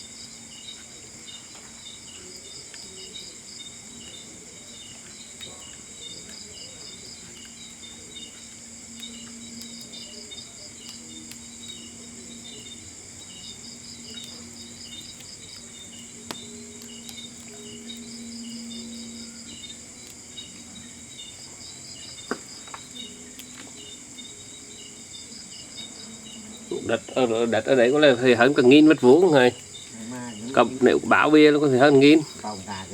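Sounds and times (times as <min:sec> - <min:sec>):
faint low hum: 0:00.0 - 0:32.9
insects pulsed chirps: 0:00.0 - 0:32.9
insects trilling: 0:00.0 - 0:32.9.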